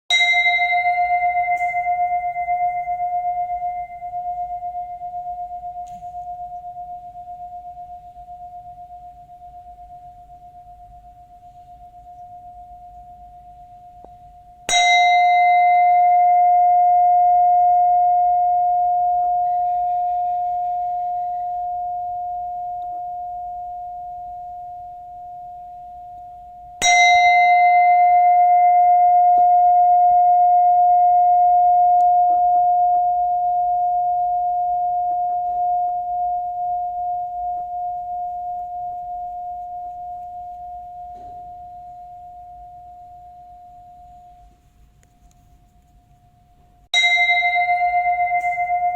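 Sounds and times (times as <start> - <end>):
bowl bell ringing: 0.1 - 44.7, 46.9 - 48.9.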